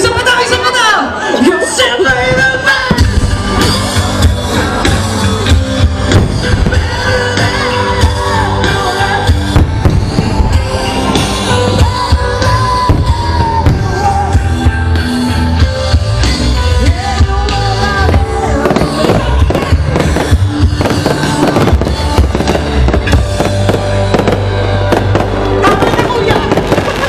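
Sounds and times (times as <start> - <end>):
loud music with heavy bass: 0.0 - 27.0
fireworks bangs and crackles: 2.3 - 14.8, 16.9 - 27.0.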